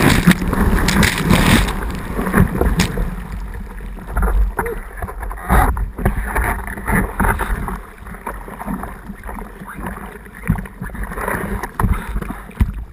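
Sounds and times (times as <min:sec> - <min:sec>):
water splashing against surfboard: 0:00.0 - 0:12.9.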